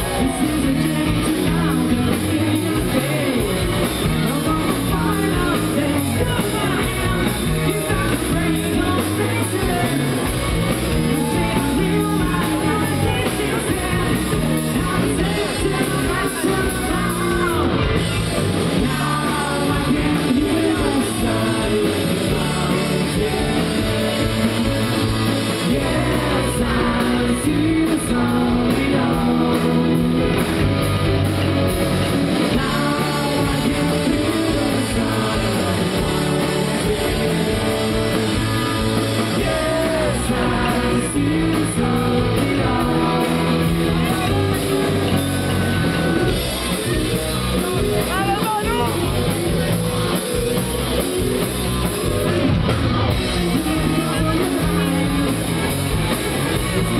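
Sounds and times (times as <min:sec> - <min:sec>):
person singing: 0:00.0 - 0:18.1, 0:18.7 - 0:30.8, 0:32.4 - 0:51.0, 0:53.1 - 0:56.9
bass guitar: 0:00.0 - 0:56.9
drums: 0:00.0 - 0:56.9
electric guitar: 0:00.0 - 0:56.9.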